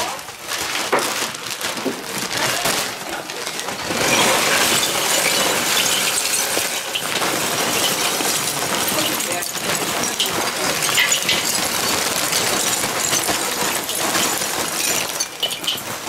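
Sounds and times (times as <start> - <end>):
charcoal clattering into grill: 3.1 - 16.0.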